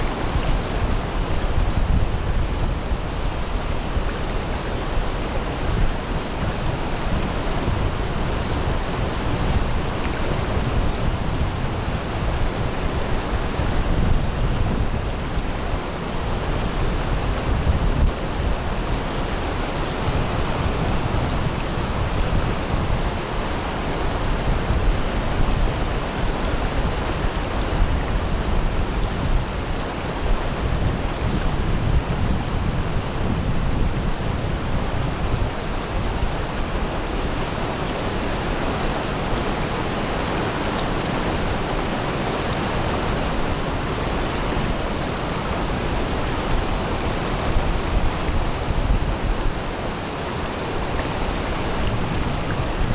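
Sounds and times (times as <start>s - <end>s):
stream flowing over rocks: 0.0s - 52.9s.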